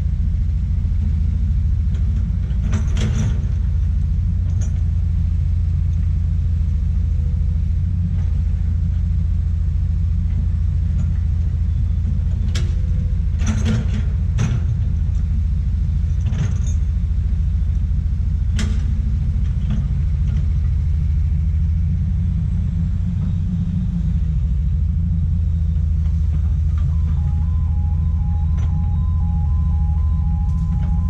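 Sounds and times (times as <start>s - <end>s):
excavator diesel engine rumble: 0.0s - 31.0s.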